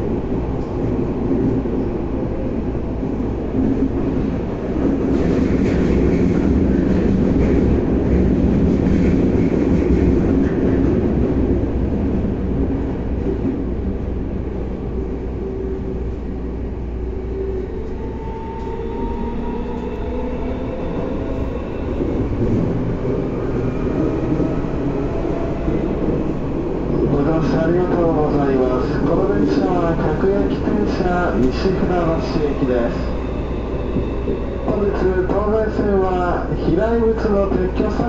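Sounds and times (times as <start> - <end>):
train rumbling underground: 0.0 - 38.0.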